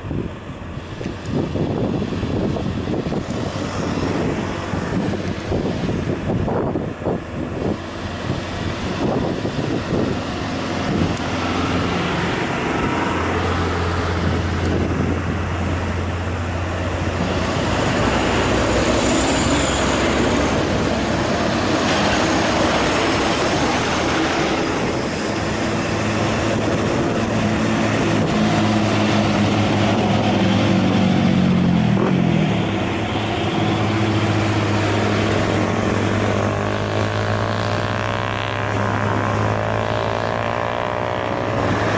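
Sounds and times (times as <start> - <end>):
truck diesel engine under load: 0.0 - 41.9.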